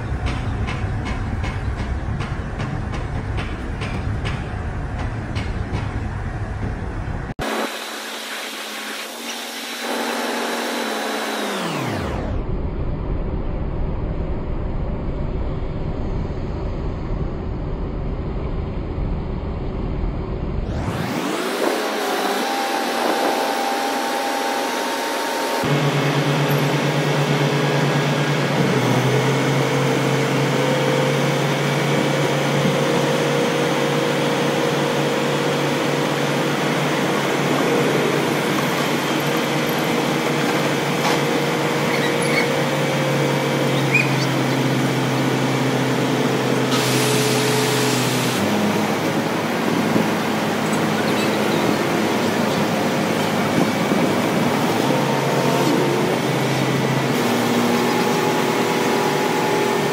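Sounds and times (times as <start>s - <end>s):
truck crane engine and hydraulic drone: 0.0s - 59.9s.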